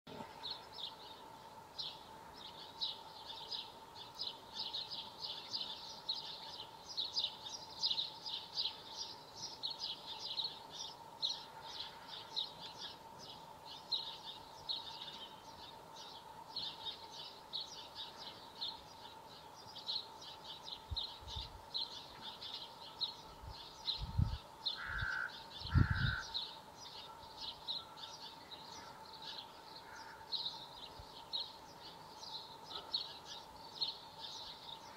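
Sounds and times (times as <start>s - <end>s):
faint steady tone: 0.1s - 34.9s.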